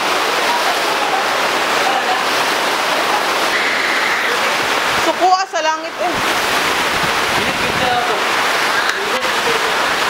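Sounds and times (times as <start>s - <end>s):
loud steady rushing noise: 0.0s - 10.0s.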